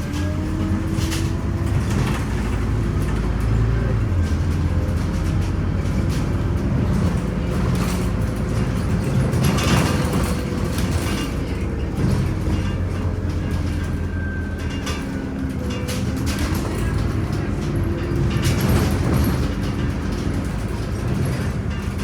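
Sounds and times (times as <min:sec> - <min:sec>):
bus diesel engine droning: 0:00.0 - 0:22.0
interior rattles and clicks: 0:00.0 - 0:22.0
road noise: 0:00.0 - 0:22.0.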